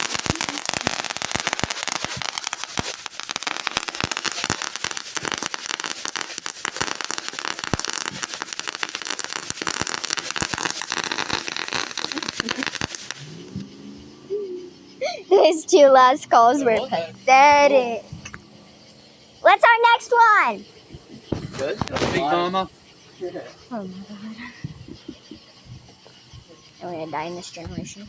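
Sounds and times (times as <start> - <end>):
firework fizzing and crackling: 0.0 - 13.8, 14.7 - 28.0.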